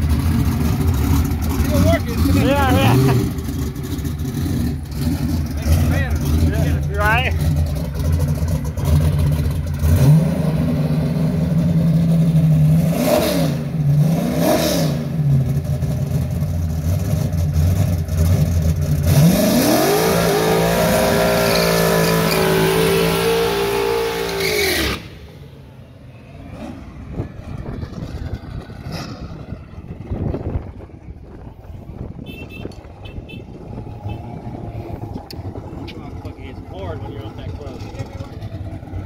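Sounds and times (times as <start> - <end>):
car engine revving: 0.0 - 32.1, 32.8 - 39.0.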